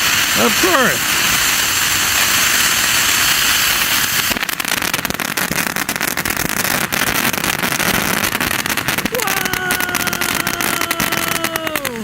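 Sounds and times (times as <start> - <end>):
firework fountain hissing: 0.0 - 12.0
firework rapid crackling: 0.0 - 12.0.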